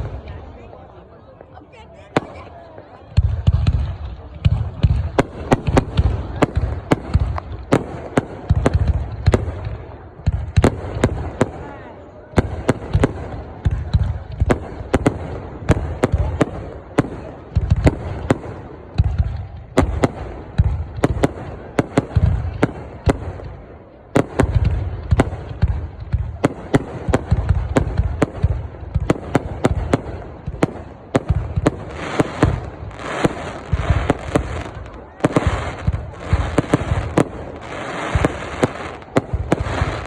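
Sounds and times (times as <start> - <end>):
fireworks bangs: 0.0 - 0.8, 1.4 - 40.0.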